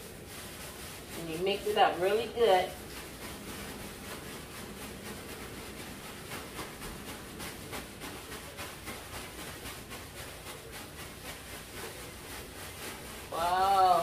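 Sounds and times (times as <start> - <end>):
hands rustling dry coating on paper: 0.0 - 14.0
steady hiss: 0.0 - 14.0.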